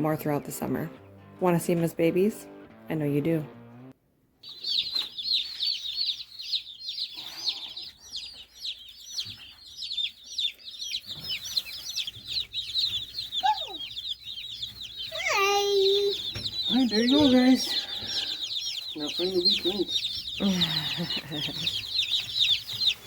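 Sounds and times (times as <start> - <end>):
chicks peeping: 4.4 - 23.0.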